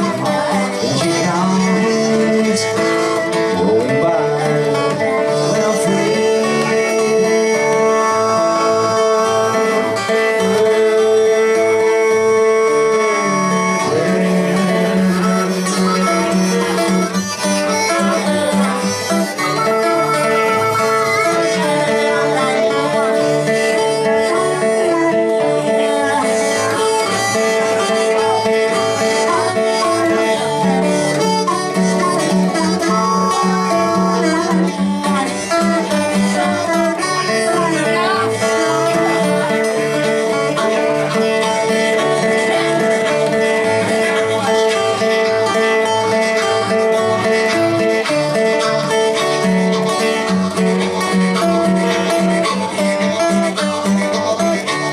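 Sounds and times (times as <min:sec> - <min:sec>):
blues band playing: 0:00.0 - 0:54.9.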